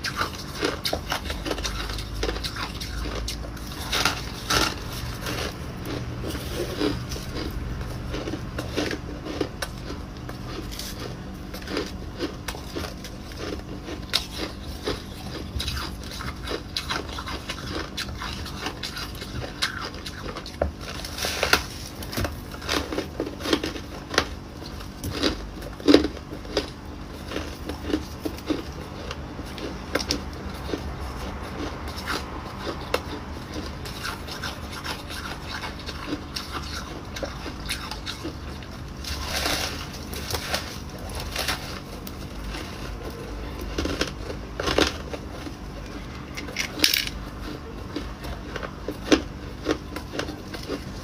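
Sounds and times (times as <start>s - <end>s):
ice cubes being chewed: 0.0s - 51.0s
steady low hum: 0.0s - 51.0s.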